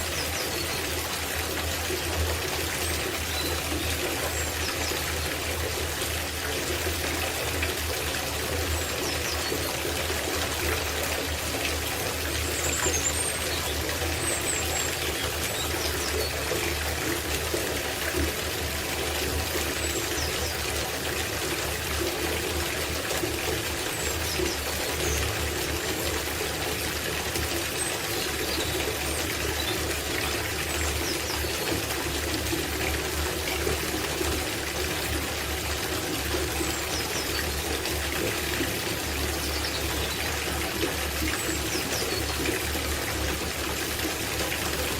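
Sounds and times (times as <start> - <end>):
tap water filling bathtub: 0.0 - 44.9.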